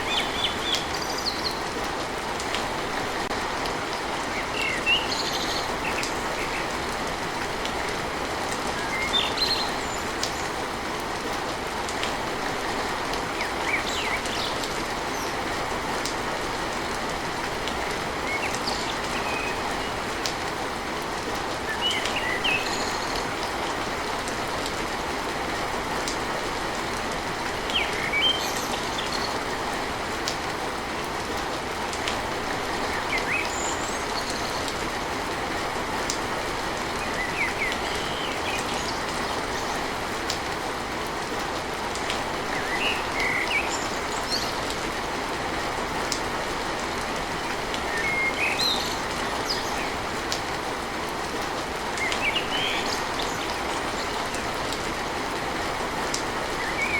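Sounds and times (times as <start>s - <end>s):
rain on a tin roof: 0.0s - 56.9s.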